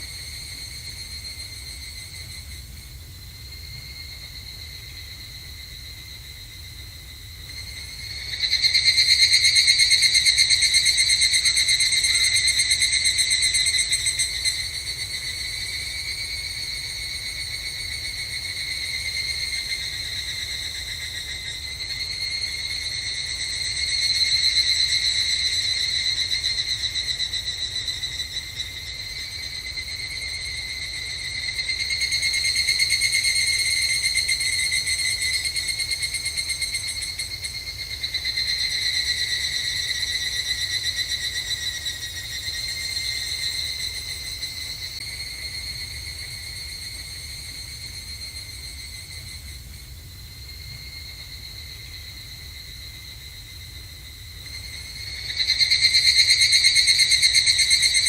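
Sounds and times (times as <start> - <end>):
cicadas trilling: 0.0 - 58.0.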